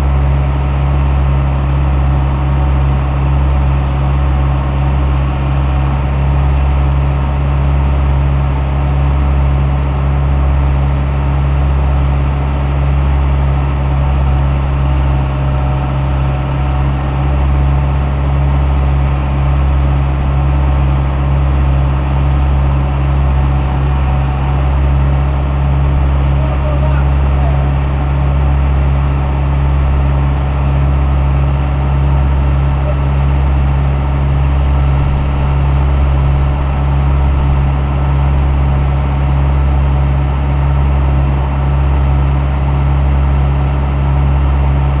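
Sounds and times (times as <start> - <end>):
excavator diesel engine droning: 0.0 - 45.0.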